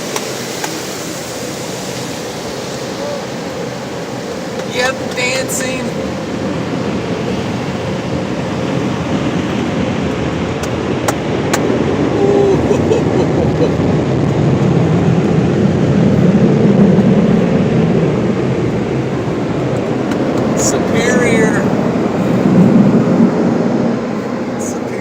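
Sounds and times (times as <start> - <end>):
car wash equipment rushing: 0.0 - 25.0.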